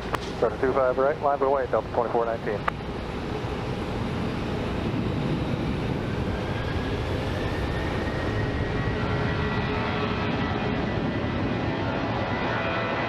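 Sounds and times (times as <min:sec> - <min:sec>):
faint engine whine: 0:00.0 - 0:13.0
jet engines at takeoff: 0:00.0 - 0:13.0.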